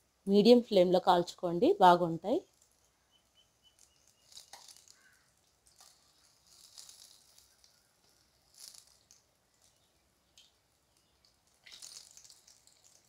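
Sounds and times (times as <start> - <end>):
faint deep-frying in oil: 0.0 - 13.0.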